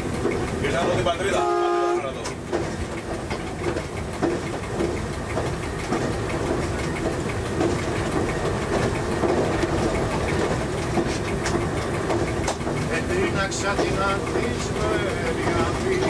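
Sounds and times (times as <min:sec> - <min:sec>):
diesel engine drone: 0:00.0 - 0:16.0
wheels on rails: 0:00.0 - 0:16.0.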